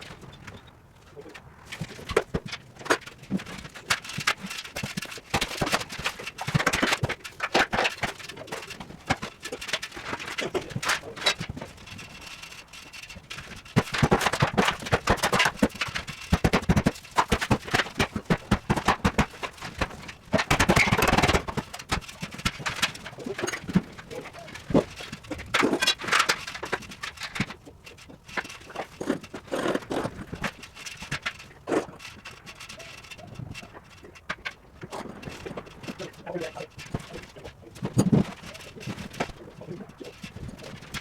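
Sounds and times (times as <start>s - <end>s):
knocks and clatter: 0.0s - 41.0s
scraping and banging: 1.3s - 41.0s.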